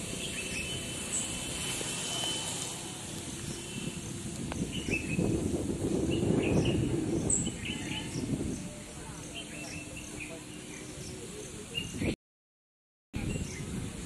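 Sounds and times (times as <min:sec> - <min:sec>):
birds chirping: 0:00.0 - 0:12.2.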